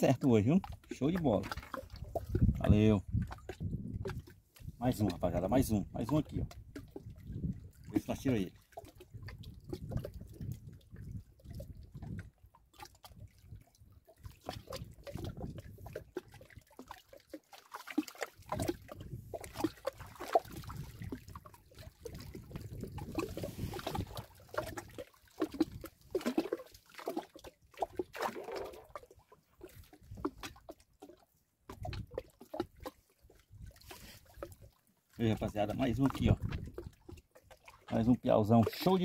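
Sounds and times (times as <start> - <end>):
water splashing and trickling: 0.0 - 39.0.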